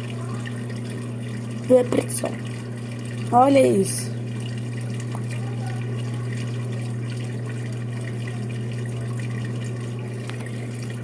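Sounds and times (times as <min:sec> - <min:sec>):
drain pump humming: 0:00.0 - 0:11.0.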